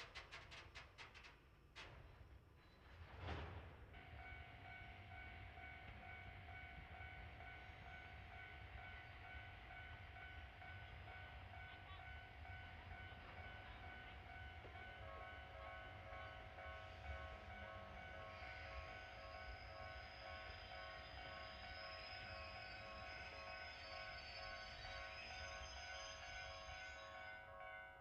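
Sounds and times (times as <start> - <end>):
electric locomotive whine and hum: 0.0 - 28.0.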